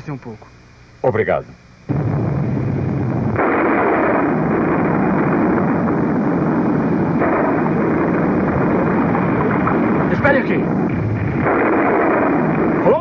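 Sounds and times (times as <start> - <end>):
cartoon volcano rumble: 1.9 - 13.0.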